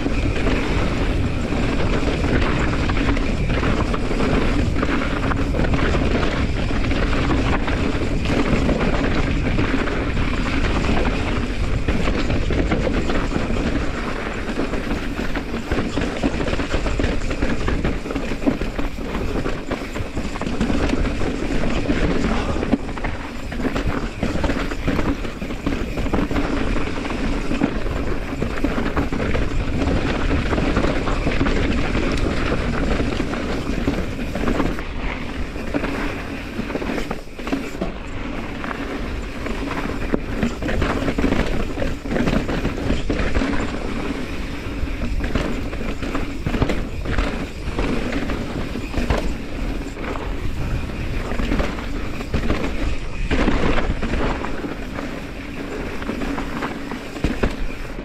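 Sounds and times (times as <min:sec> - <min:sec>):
bike rattling over bumps: 0:00.0 - 0:58.0
bike tyres crunching over stones: 0:00.0 - 0:58.0.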